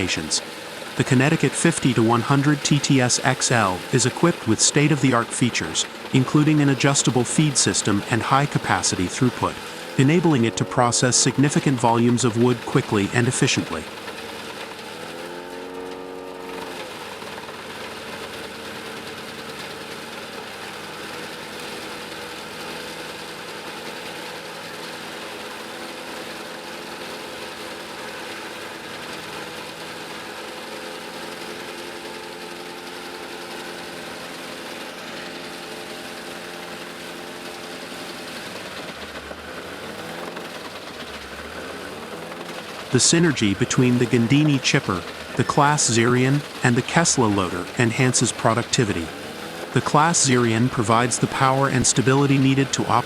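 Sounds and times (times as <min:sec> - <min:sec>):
wood chipper engine drone: 0:00.0 - 0:53.0.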